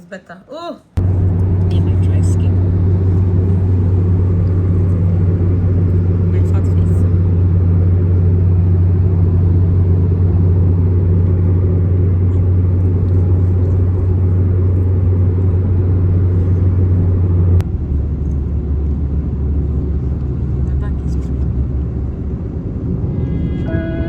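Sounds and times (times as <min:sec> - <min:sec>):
low hum: 0:00.9 - 0:24.0
car cabin rumble while driving: 0:01.0 - 0:24.0.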